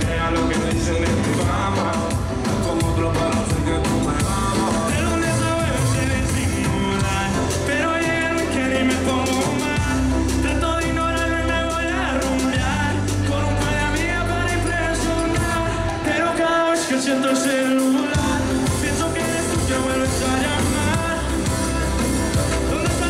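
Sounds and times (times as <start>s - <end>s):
latin pop music with heavy beat: 0.0s - 23.0s
man singing into microphone: 0.0s - 23.0s.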